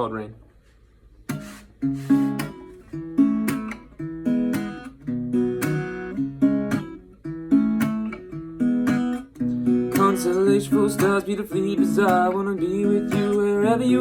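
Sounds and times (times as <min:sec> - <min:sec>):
acoustic guitar strumming chords: 0:01.3 - 0:14.0.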